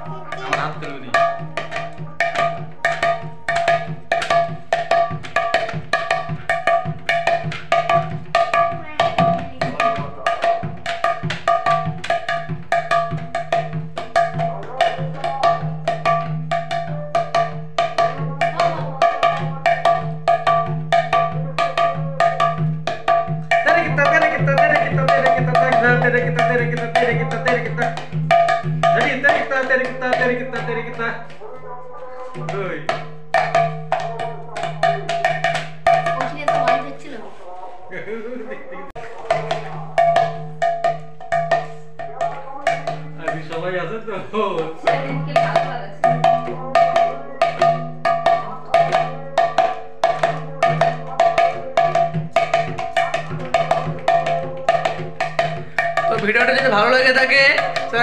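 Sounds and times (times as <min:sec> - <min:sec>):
hand drum playing: 0:00.0 - 0:37.4, 0:39.0 - 0:58.0.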